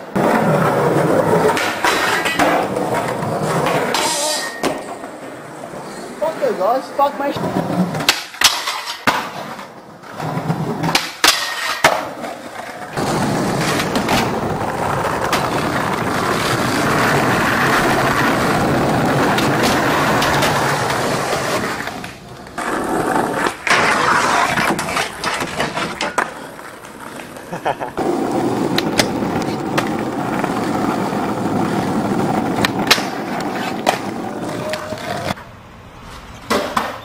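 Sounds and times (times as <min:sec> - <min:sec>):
skateboard scraping along a ledge: 0:00.0 - 0:06.2, 0:07.4 - 0:35.4
skateboard wheels rolling on pavement: 0:00.0 - 0:37.0
skateboard tail pops and landings: 0:00.1 - 0:05.0, 0:07.8 - 0:09.8, 0:10.4 - 0:27.3, 0:28.0 - 0:35.4, 0:36.4 - 0:37.0.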